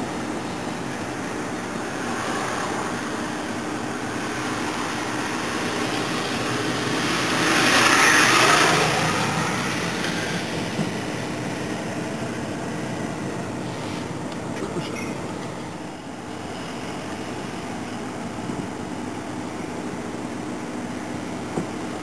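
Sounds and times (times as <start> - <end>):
car engine and tyre hum: 0.0 - 22.0.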